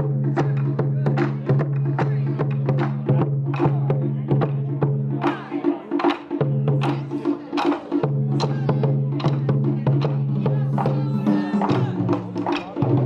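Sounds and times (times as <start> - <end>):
taiko drums beaten with sticks: 0.0 - 13.0.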